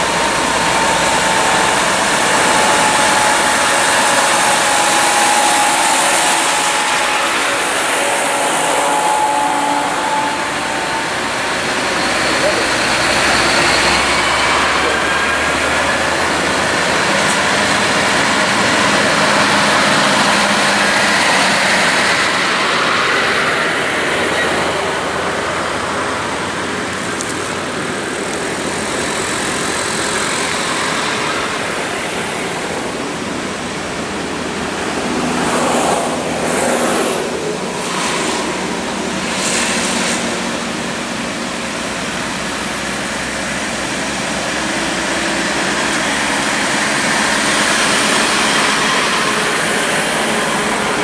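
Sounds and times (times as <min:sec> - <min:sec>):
highway traffic passing: 0:00.0 - 0:51.0.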